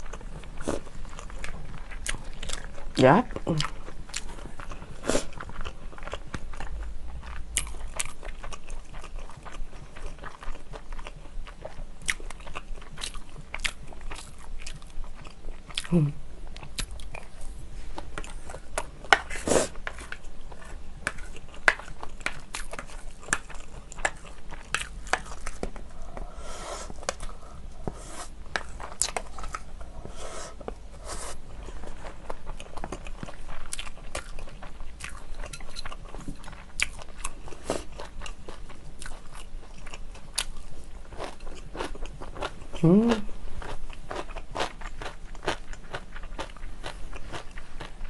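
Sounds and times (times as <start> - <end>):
person chewing: 0.0 - 48.0.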